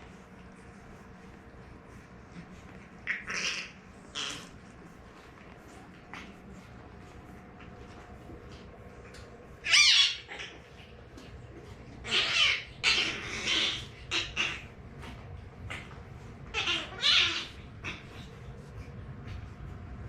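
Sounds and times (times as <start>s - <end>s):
puppy whining: 1.8s - 19.8s.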